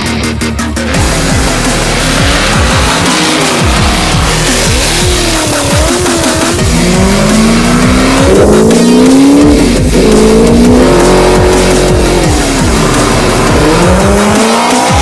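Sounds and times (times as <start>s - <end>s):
background music: 0.0s - 15.0s
car engine accelerating hard: 0.0s - 15.0s.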